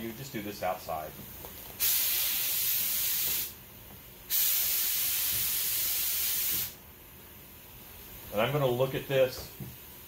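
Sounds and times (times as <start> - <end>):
steady hiss bursts: 1.8 - 10.0.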